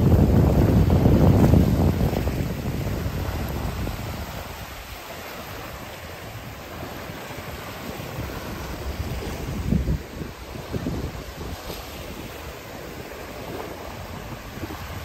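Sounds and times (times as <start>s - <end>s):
small waves washing onto sand: 0.0s - 15.0s
wind rumbling on microphone: 0.0s - 15.0s.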